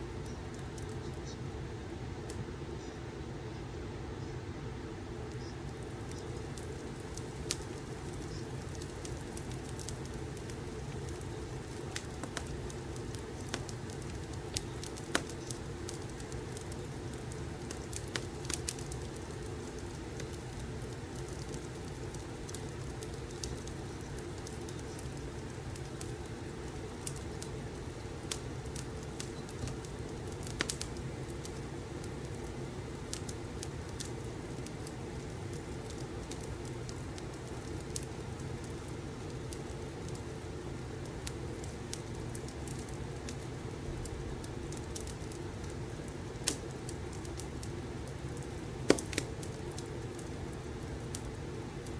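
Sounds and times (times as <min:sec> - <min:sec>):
wood fire crackling and popping: 0:00.0 - 0:02.8, 0:05.0 - 0:51.9.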